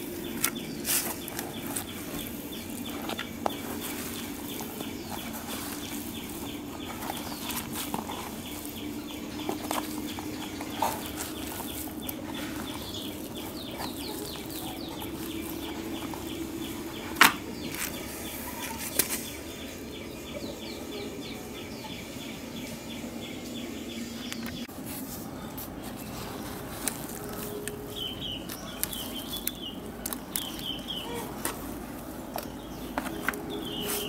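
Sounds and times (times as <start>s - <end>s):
birds chirping: 0.0s - 34.0s
low background hum: 0.0s - 34.0s.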